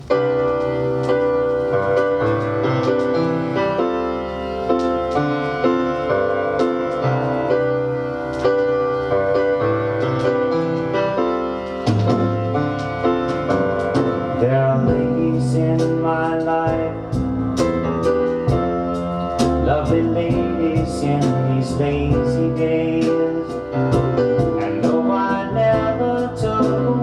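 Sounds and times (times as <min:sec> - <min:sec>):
piano chords from vinyl record: 0:00.0 - 0:27.0.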